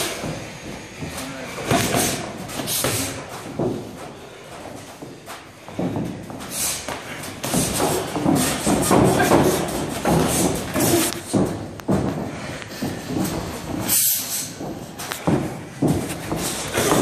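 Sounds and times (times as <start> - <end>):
boxing gloves thudding on bodies: 0.0 - 17.0.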